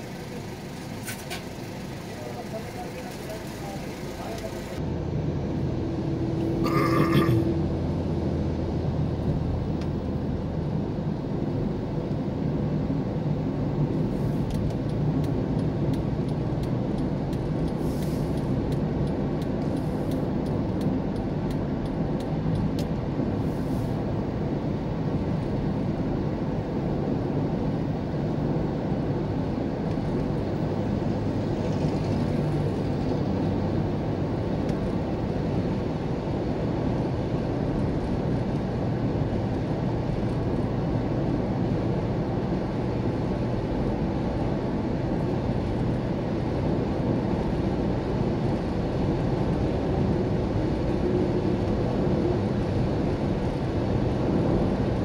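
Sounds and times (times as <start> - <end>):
car engine hum: 0.0 - 55.0
tyre road noise: 0.0 - 55.0.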